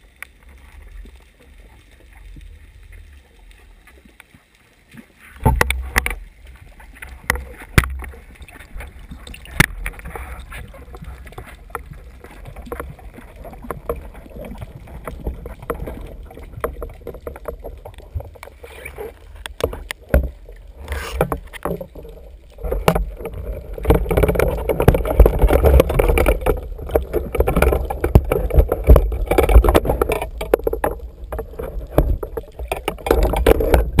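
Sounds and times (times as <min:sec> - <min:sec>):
water sloshing and splashing: 0:00.0 - 0:34.0.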